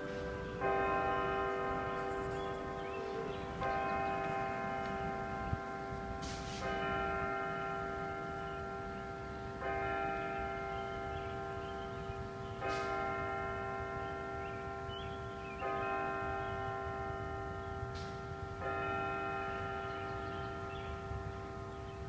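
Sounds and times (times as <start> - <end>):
tower bell tolling: 0.0 - 22.0.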